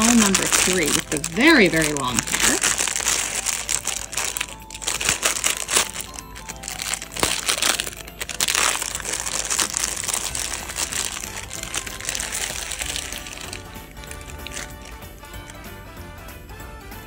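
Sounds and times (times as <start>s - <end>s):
plastic bag crinkling: 0.0s - 15.6s
quiet background music: 0.0s - 17.0s.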